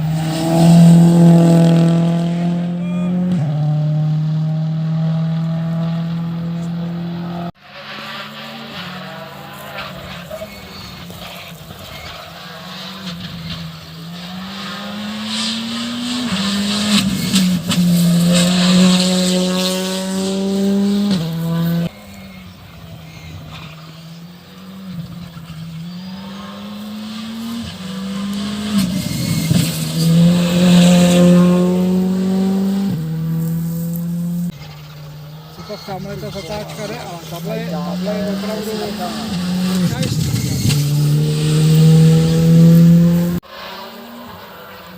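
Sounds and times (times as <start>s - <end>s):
rally cars accelerating past: 0.0s - 44.9s.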